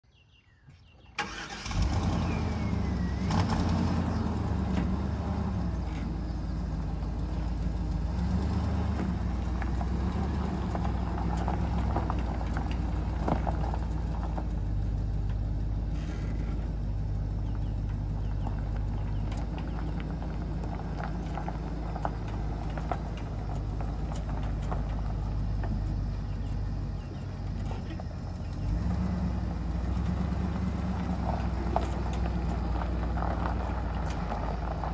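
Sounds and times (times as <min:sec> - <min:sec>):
truck engine starting and running: 0:00.1 - 0:34.9.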